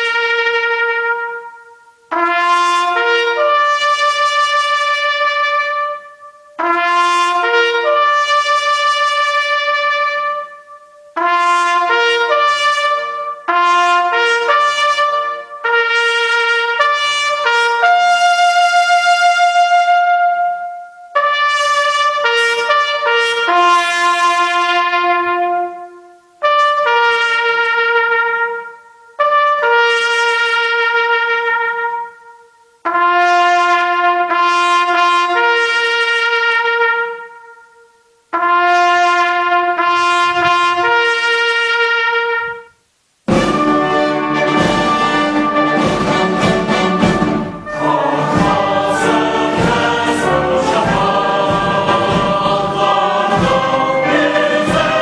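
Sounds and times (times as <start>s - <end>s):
solo trumpet playing slow call: 0.0s - 50.9s.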